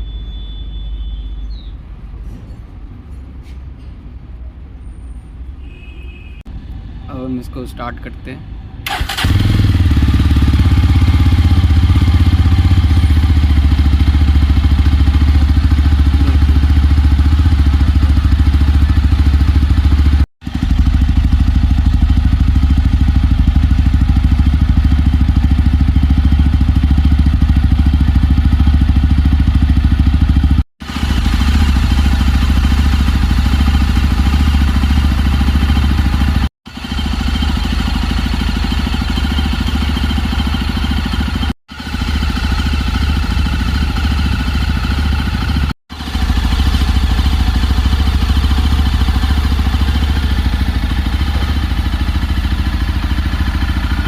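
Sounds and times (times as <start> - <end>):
motorcycle engine idling: 8.9 - 54.0.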